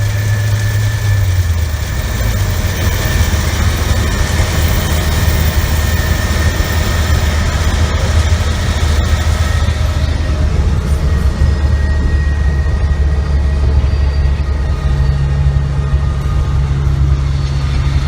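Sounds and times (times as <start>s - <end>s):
heavy engine droning: 0.0s - 18.0s.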